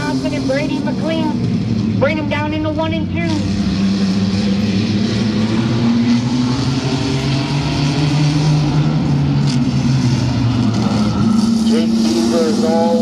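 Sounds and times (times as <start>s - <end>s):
mini truck engines racing: 0.0s - 13.0s.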